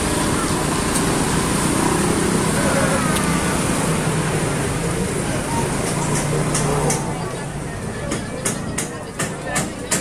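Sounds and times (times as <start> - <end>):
faint voices: 0.0 - 10.0
traffic hum: 0.0 - 10.0.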